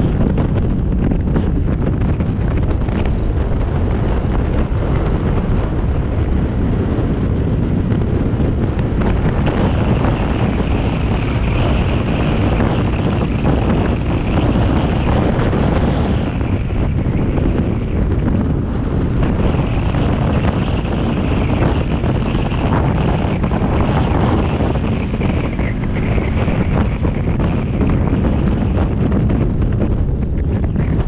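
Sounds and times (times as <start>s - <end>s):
road and vehicle noise: 0.0s - 31.0s
wind buffeting microphone: 0.0s - 31.0s.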